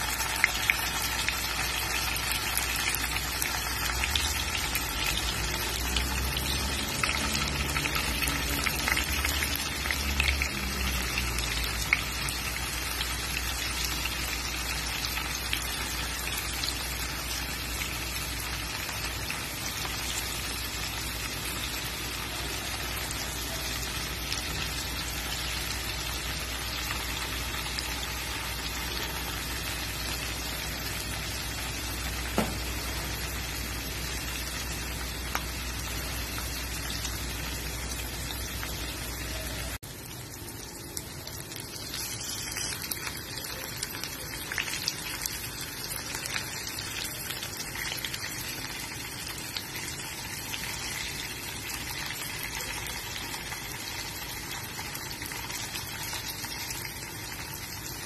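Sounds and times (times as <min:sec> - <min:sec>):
tofu sizzling in hot oil: 0:00.0 - 0:58.0.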